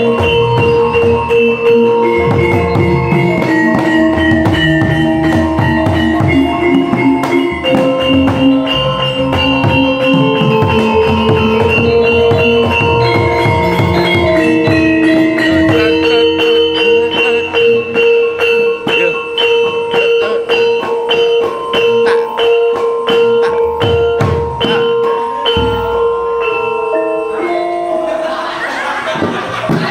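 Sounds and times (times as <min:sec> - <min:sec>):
fast hand drumming: 0:00.0 - 0:26.3, 0:29.2 - 0:29.9
metallophones and gongs ringing: 0:00.0 - 0:29.9.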